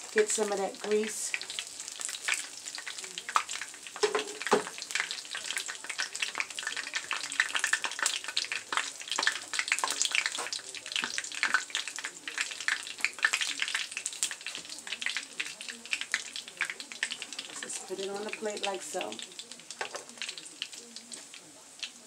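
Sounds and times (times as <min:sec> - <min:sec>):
food deep-frying in oil: 0:00.0 - 0:22.0.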